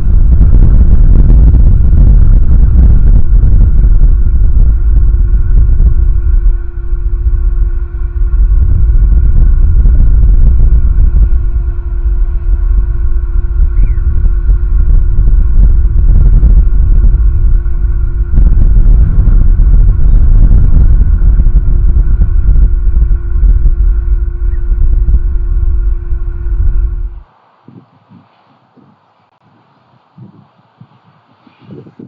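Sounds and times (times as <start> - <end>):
faint steady tone: 0.0 - 31.8
wind buffeting microphone: 0.0 - 32.0.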